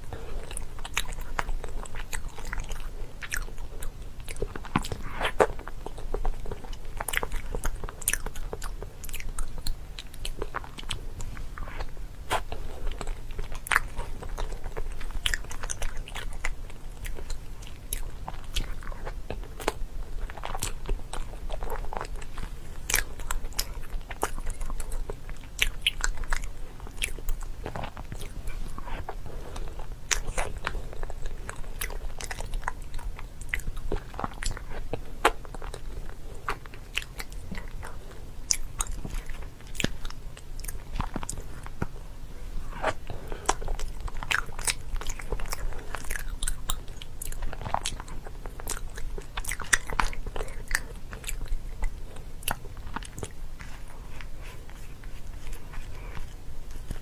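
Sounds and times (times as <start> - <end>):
chewing crunchy food: 0.0 - 57.0.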